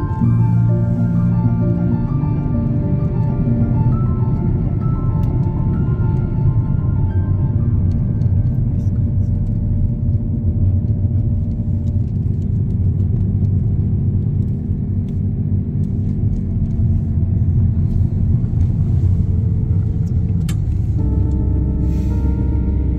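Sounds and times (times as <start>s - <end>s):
car road rumble from inside: 0.0s - 22.9s.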